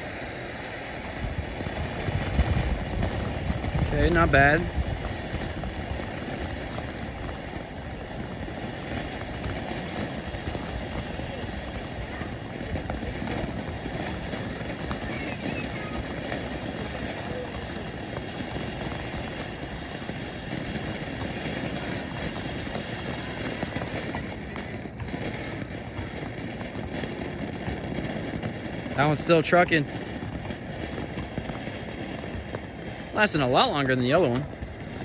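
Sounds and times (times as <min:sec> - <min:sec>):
fireworks fountains hissing: 0:00.0 - 0:35.0.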